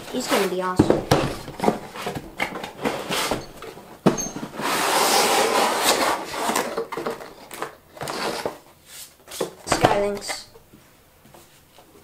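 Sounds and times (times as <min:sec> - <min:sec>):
cardboard scraping: 0:00.1 - 0:10.2
cardboard rustling: 0:00.1 - 0:10.3.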